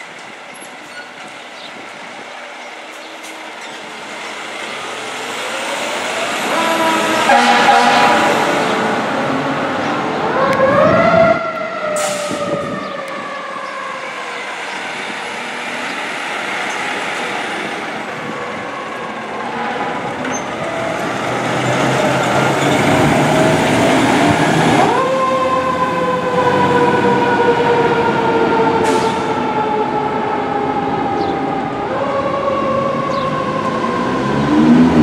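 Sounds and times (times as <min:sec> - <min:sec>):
truck engine: 0:00.0 - 0:35.0
fire truck siren wailing: 0:02.8 - 0:35.0.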